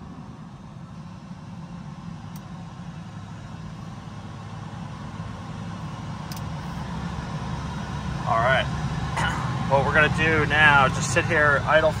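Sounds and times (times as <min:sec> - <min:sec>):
jet engine idling: 0:00.0 - 0:12.0.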